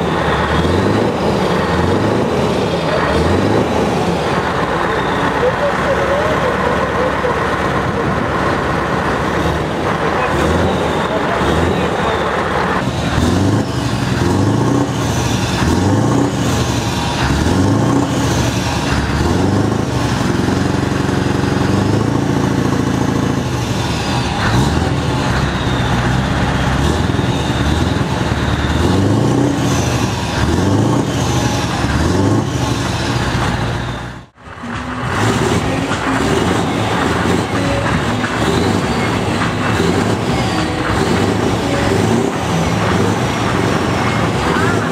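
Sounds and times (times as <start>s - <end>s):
diesel truck engine revving: 0.0s - 44.9s.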